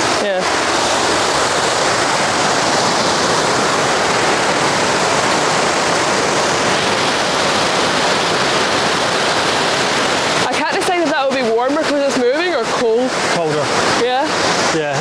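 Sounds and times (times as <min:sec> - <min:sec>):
river water rushing over boulders: 0:00.0 - 0:15.0.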